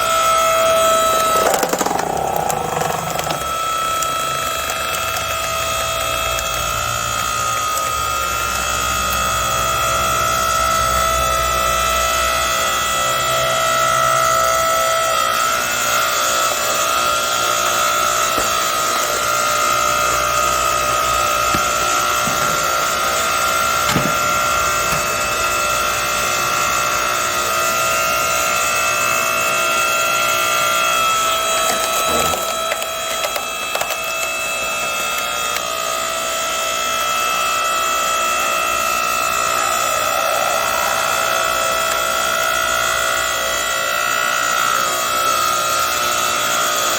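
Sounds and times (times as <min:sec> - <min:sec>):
log splitter motor whine: 0:00.0 - 0:46.9.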